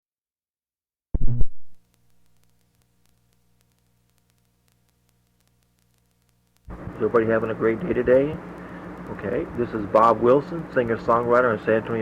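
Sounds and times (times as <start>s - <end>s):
faint electrical hum: 1.7s - 12.0s.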